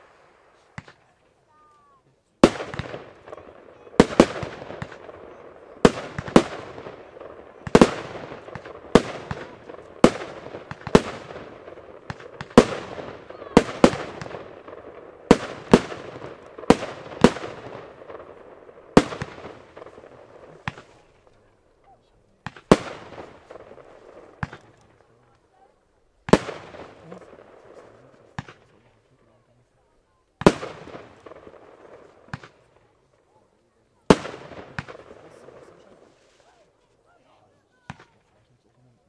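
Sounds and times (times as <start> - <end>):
firework bangs echoing: 0.0 - 1.2, 2.4 - 29.1, 30.4 - 33.0, 34.0 - 36.3.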